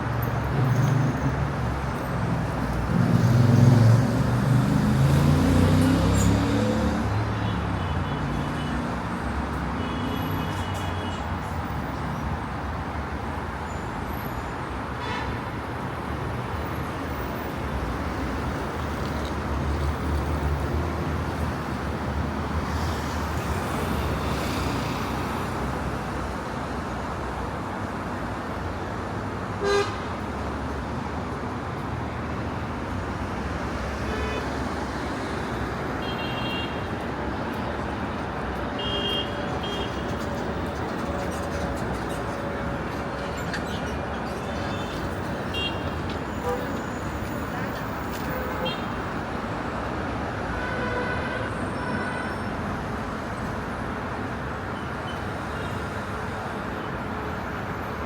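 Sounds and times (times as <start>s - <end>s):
passing vehicles: 0.0s - 58.0s.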